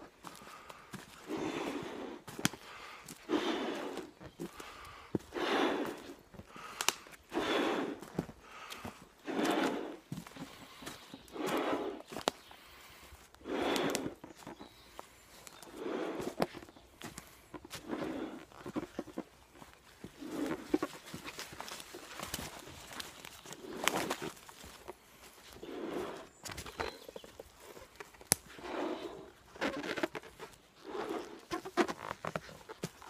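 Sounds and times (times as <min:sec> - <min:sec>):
footsteps with sharp clicks: 0:00.0 - 0:33.0.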